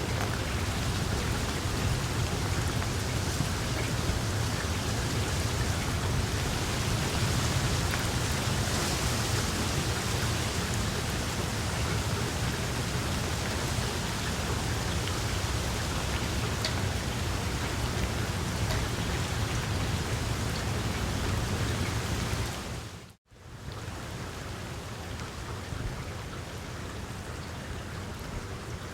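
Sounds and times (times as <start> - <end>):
rain falling on leaves: 0.0 - 28.9.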